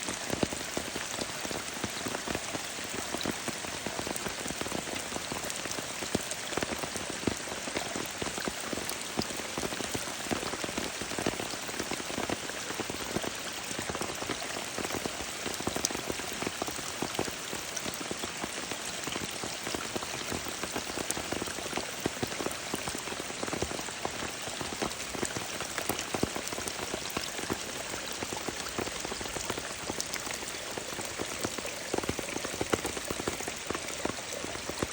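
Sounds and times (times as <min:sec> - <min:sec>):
rain falling: 0:00.0 - 0:34.9
runoff water flowing: 0:00.0 - 0:34.9.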